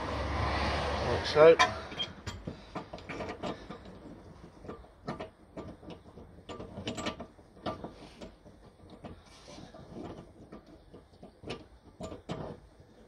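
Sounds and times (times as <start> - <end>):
metallic clicks and scrapes: 0.6 - 13.0.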